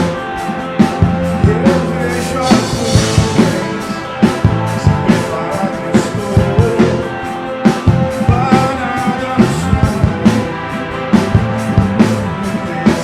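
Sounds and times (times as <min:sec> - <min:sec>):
drum kit: 0:00.0 - 0:13.0
guitar: 0:00.0 - 0:13.0
person singing: 0:01.1 - 0:10.9, 0:12.3 - 0:13.0.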